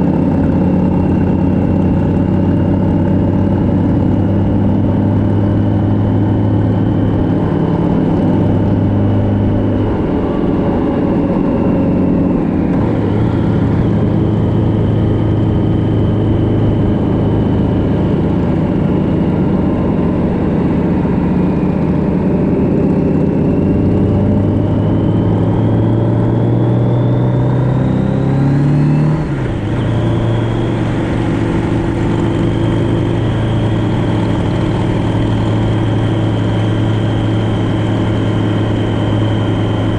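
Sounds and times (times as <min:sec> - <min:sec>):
motorcycle engine running: 0:00.0 - 0:39.9
road and wind rush: 0:00.0 - 0:39.9.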